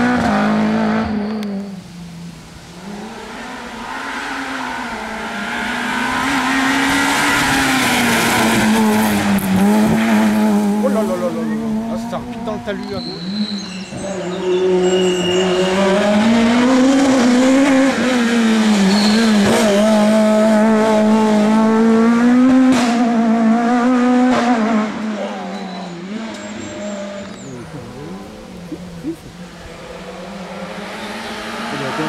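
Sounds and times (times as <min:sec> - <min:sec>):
rally car engine at full throttle: 0:00.0 - 0:32.0.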